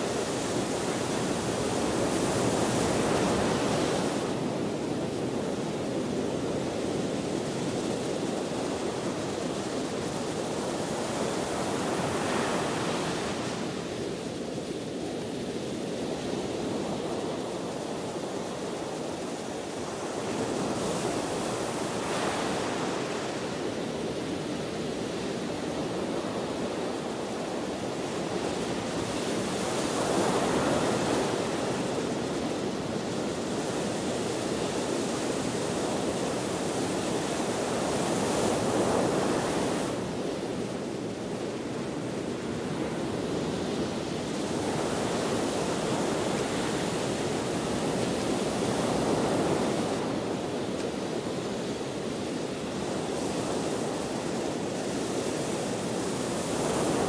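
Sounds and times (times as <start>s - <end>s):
ocean waves breaking on shore: 0.0s - 57.0s
wind: 0.0s - 57.0s.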